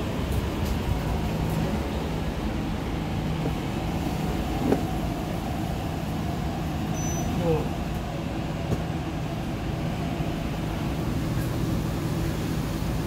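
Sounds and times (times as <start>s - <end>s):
electric hum of train: 0.0s - 13.0s.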